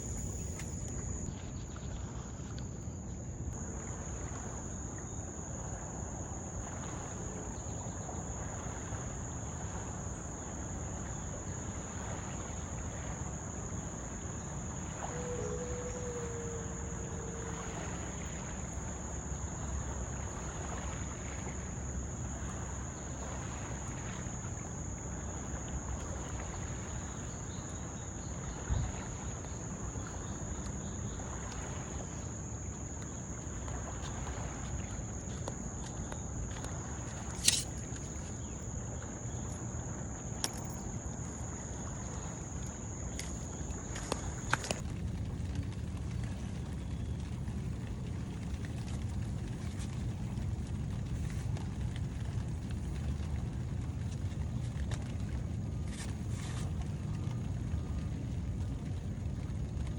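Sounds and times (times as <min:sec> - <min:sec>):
insects droning: 0:00.0 - 0:59.9
low rumble of wind: 0:00.0 - 0:59.9.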